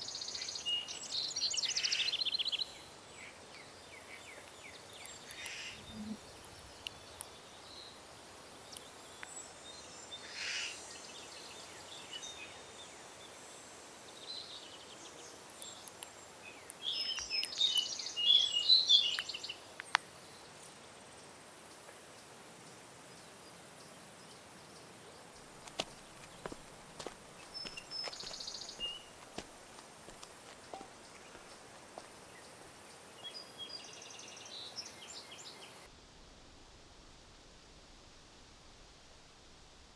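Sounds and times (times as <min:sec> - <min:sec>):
small birds singing: 0:00.0 - 0:35.9
faint steady high hiss: 0:00.0 - 0:39.9.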